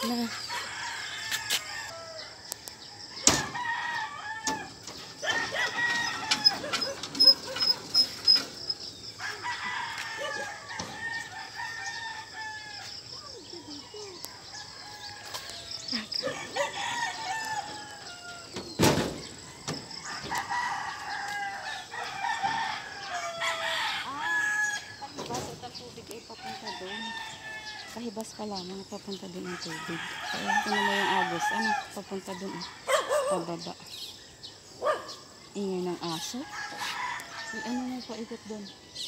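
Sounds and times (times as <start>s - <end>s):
roosters crowing: 0.0s - 28.2s, 28.9s - 39.0s.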